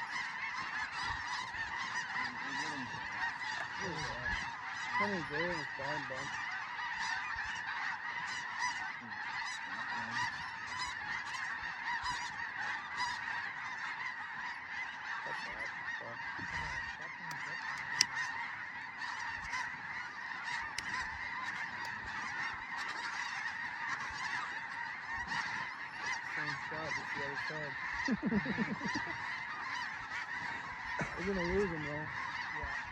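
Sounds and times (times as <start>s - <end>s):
geese honking: 0.0s - 32.9s.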